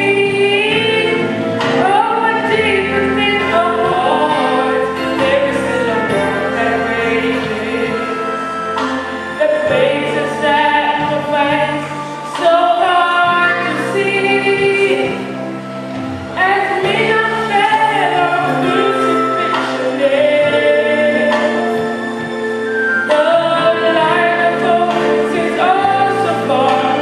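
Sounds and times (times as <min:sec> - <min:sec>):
gospel choir singing: 0:00.0 - 0:27.0
instrumental accompaniment: 0:00.0 - 0:27.0.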